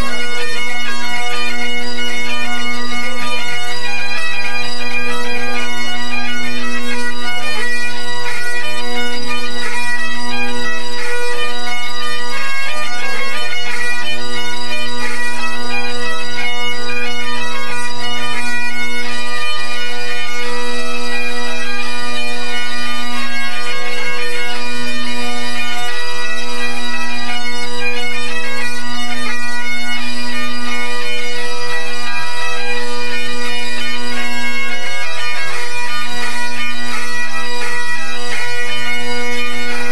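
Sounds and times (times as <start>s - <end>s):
bagpipes playing loudly: 0.0s - 39.9s.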